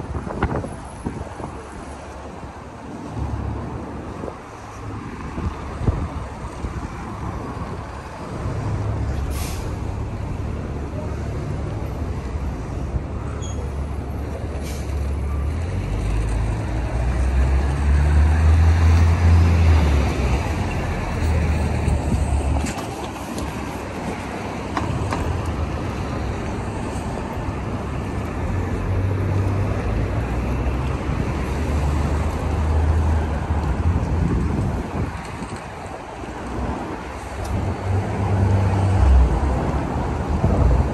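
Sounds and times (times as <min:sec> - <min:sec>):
passing traffic: 0:00.0 - 0:40.9.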